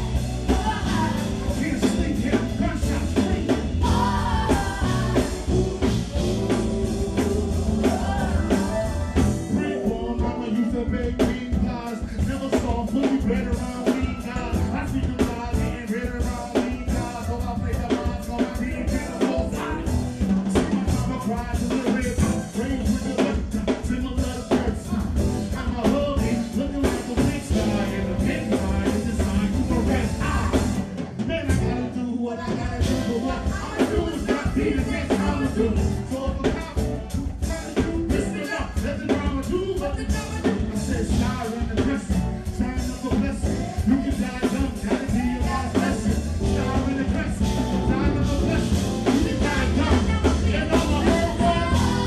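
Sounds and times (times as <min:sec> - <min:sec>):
steady drum beat: 0:00.0 - 0:31.9, 0:32.5 - 0:52.0
live band playing: 0:00.0 - 0:52.0
person singing: 0:00.0 - 0:52.0.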